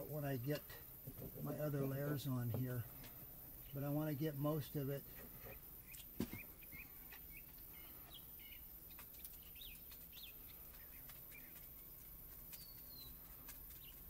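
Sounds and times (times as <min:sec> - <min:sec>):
faint bird chirps: 0:01.3 - 0:14.0.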